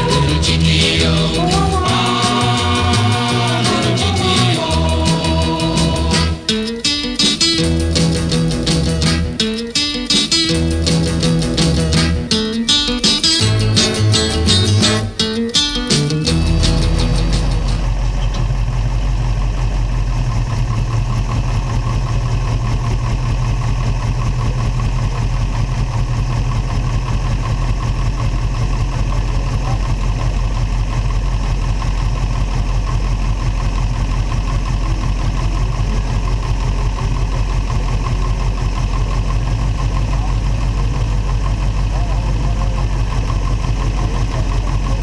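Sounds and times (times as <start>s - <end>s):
car engine running low: 0.0s - 45.0s.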